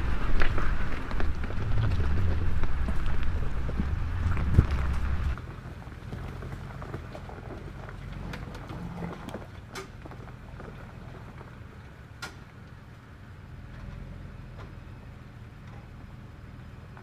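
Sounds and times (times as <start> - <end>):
car engine running low: 0.0 - 17.0.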